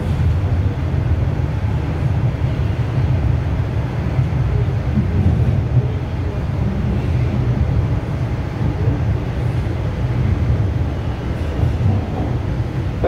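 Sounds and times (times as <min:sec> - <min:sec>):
subway train low rumble: 0:00.0 - 0:13.0.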